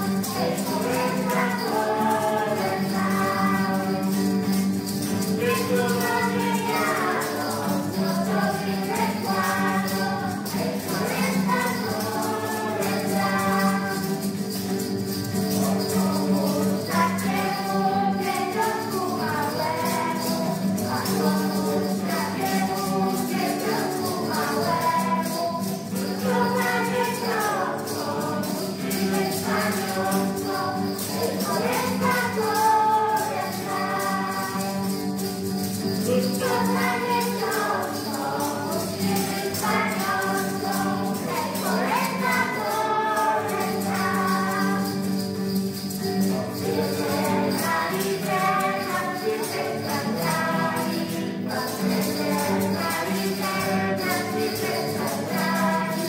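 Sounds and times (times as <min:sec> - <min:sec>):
group singing: 0:00.0 - 0:56.0
maracas shaking: 0:00.0 - 0:56.0
strummed acoustic guitar: 0:00.0 - 0:56.0
tambourine: 0:00.0 - 0:56.0.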